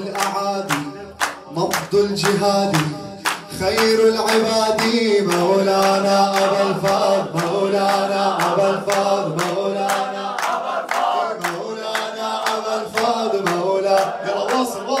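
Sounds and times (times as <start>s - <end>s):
man singing a devotional chant: 0.0s - 15.0s.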